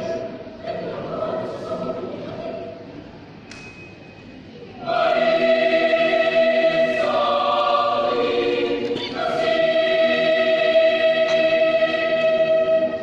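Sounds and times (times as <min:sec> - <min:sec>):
mixed choir singing: 0:00.0 - 0:02.8, 0:04.8 - 0:13.0.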